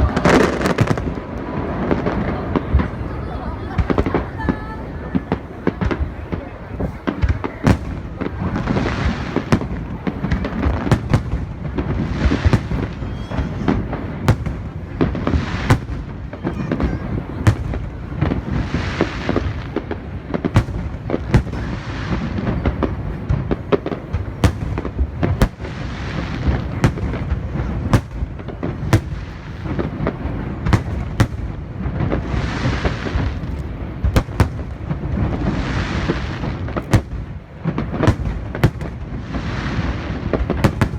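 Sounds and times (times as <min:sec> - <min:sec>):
firework hiss: 0:00.0 - 0:40.9
fireworks bangs: 0:00.0 - 0:40.9.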